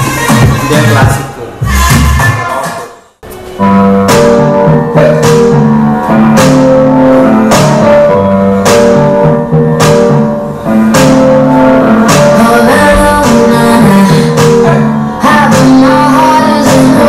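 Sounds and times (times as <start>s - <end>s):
music from portable speaker: 0.0s - 17.0s.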